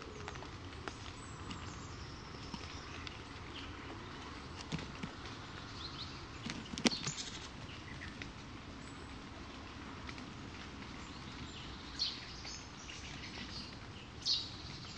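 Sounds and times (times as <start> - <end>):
outdoor background hiss: 0.0 - 14.9.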